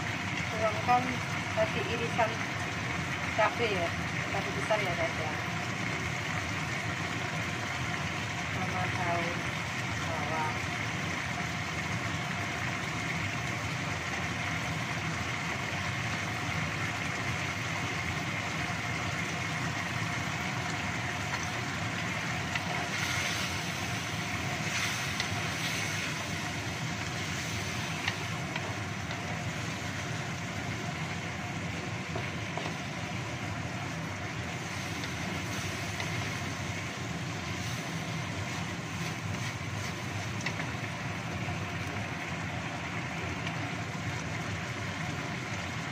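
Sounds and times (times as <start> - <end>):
sauce simmering in a wok: 0.0 - 45.9.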